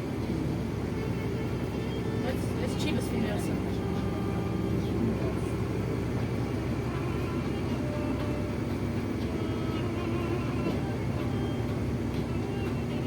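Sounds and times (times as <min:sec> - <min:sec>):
bus engine and road drone: 0:00.0 - 0:13.0
faint duduk music: 0:00.0 - 0:13.0.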